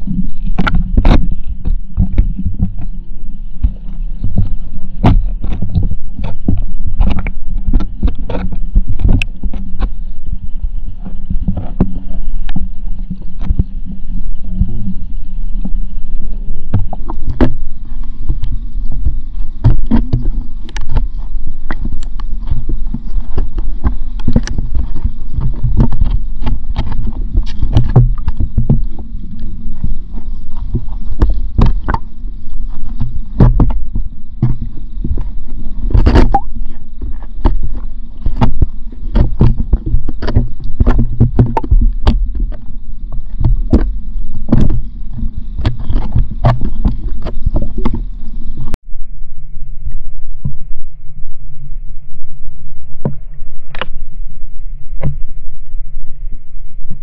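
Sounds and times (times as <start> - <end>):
underwater clicks and knocks: 0.0 - 10.1, 11.0 - 15.0, 16.6 - 48.8, 53.0 - 54.0, 55.0 - 55.3
muffled underwater rumble: 0.0 - 57.0.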